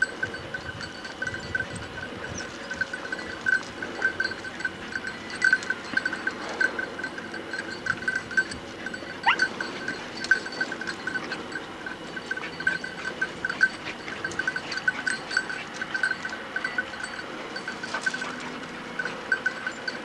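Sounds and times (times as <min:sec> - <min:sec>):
small bell clinking: 0:00.0 - 0:20.0.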